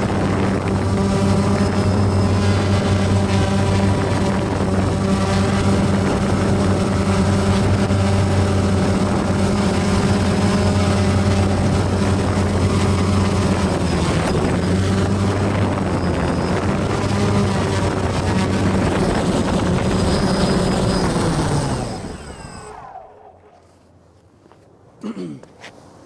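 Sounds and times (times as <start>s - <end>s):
drone propellers whirring: 0.0s - 24.0s.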